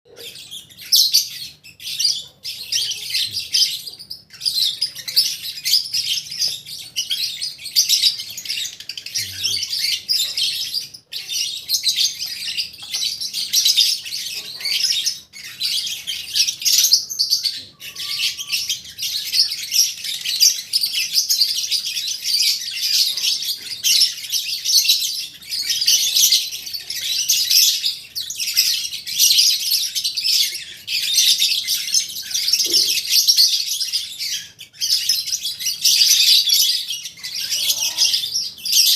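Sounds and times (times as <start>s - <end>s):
lovebirds chirping: 0.1s - 38.9s.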